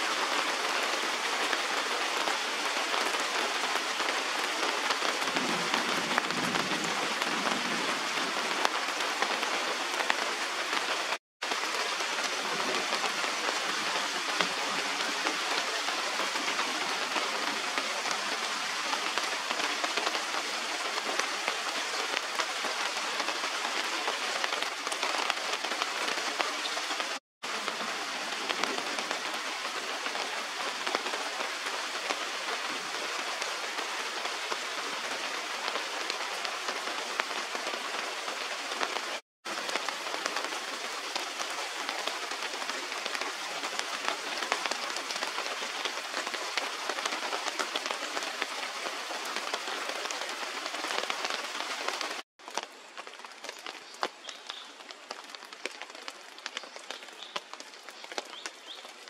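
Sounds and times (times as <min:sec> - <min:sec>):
rain on leaves and water: 0:00.0 - 0:59.0.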